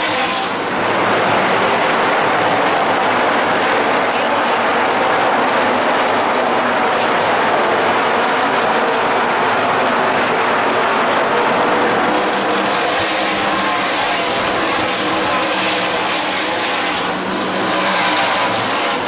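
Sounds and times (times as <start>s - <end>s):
race truck engines droning: 0.0s - 19.0s.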